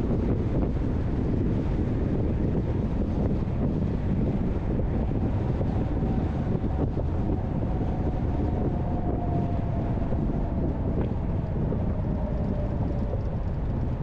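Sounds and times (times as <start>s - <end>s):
car road and wind noise: 0.0s - 14.0s
faint whine: 0.0s - 14.0s.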